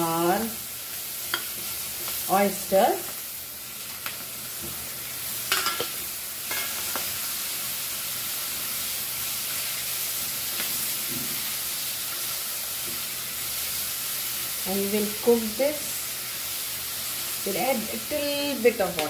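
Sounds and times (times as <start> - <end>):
food frying hiss: 0.0 - 19.0.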